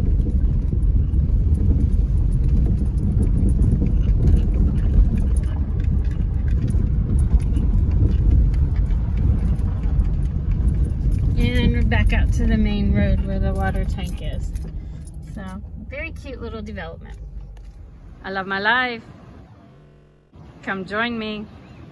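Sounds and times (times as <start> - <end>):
car rumbling on dirt road: 0.0 - 21.9.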